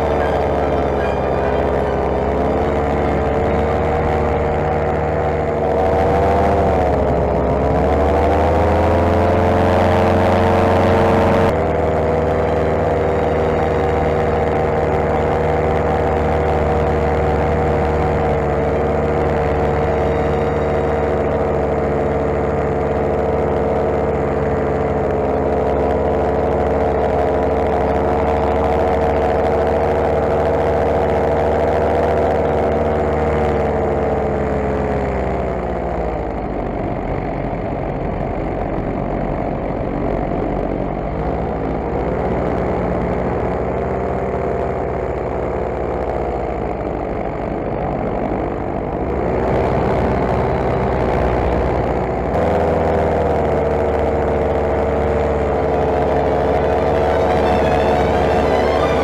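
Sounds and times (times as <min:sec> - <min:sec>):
paramotor engine running: 0:00.0 - 0:59.0.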